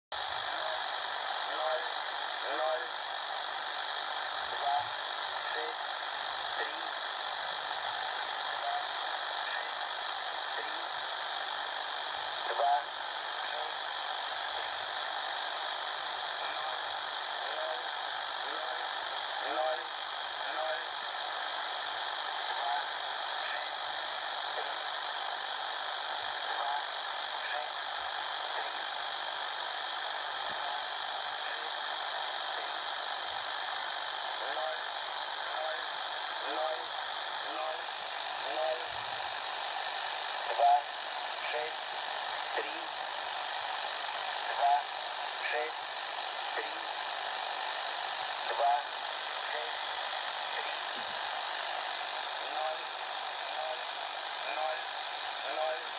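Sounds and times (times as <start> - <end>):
radio static hissing: 0.1 - 55.9.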